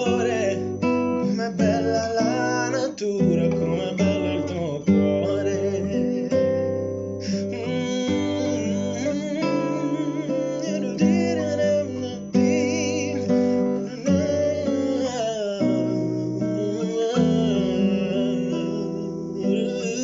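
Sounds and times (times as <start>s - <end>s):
nylon-string guitar chords: 0.0s - 20.0s.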